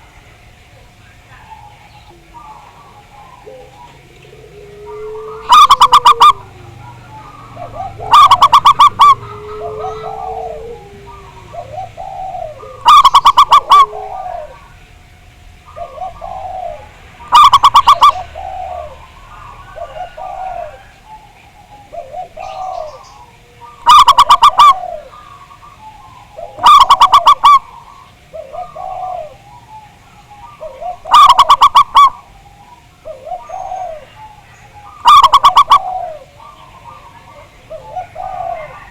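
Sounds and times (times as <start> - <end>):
dove cooing rapidly pulsed: 0.0 - 38.9
quieter bird short coos: 1.4 - 14.7, 15.7 - 25.8, 26.4 - 29.4, 30.6 - 32.3, 35.0 - 38.9.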